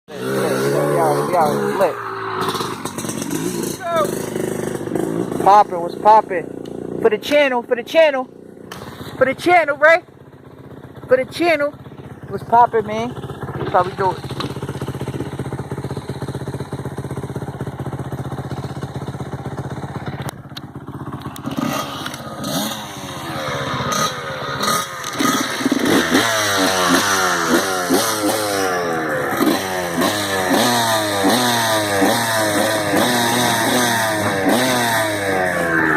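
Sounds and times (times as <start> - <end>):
dirt bike engine idling and revving: 0.1 - 35.9.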